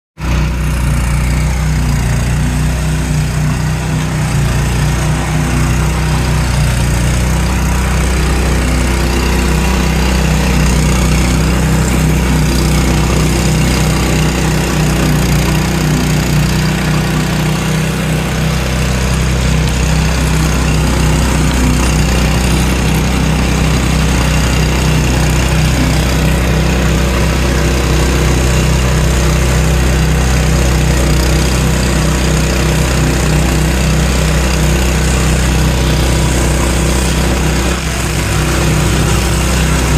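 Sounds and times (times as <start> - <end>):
flail mower engine droning: 0.2 - 39.9.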